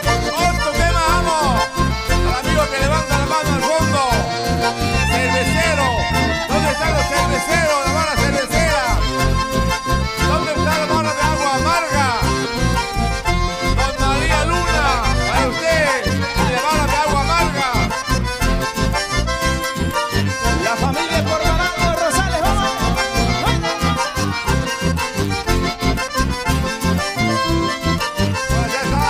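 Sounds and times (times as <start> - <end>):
acoustic guitars: 0.0 - 29.0
button accordions: 0.0 - 29.0.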